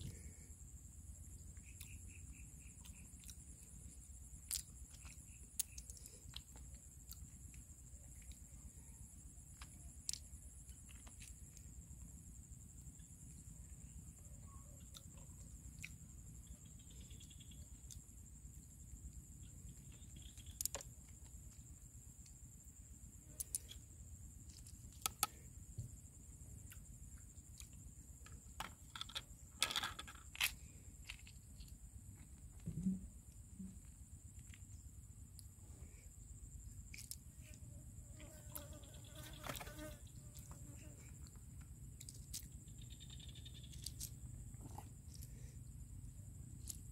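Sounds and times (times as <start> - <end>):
high insect drone: 0.0 - 46.9.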